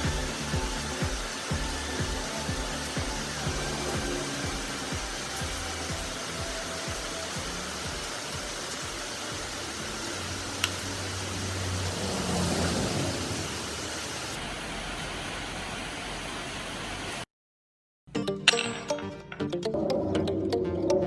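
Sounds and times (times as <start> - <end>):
steady hissing noise: 0.0 - 17.2.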